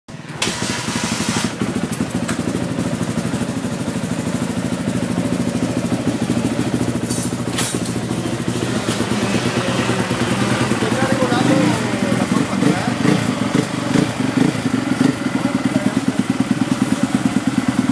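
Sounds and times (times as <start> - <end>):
motorcycle engine running: 0.1 - 17.9.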